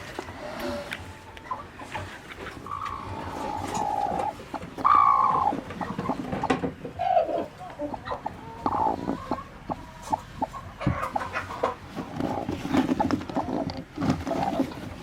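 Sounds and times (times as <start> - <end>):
chickens clucking: 0.0 - 15.0
drawn-out chicken calls: 0.0 - 15.0.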